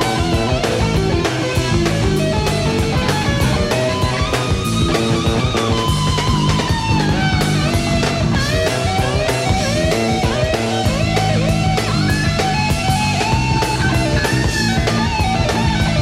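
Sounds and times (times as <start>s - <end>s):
live rock fusion band: 0.0s - 16.0s.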